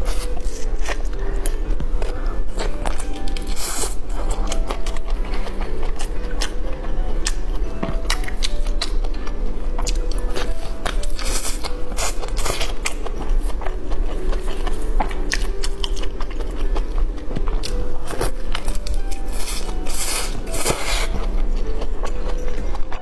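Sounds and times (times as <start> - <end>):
biting and chewing food: 0.0 - 23.0
faint background music: 0.0 - 23.0.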